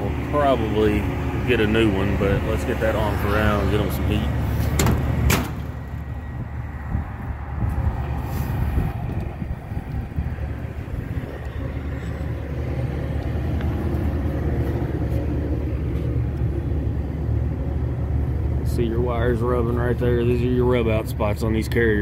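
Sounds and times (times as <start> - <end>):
hvac equipment rumbling: 0.0 - 22.0.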